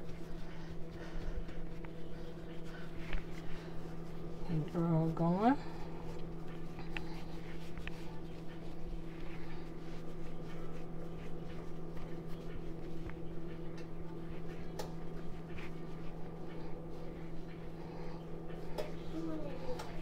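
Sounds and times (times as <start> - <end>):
dough rolled on stone countertop: 0.0 - 20.0
low electrical hum: 0.0 - 20.0.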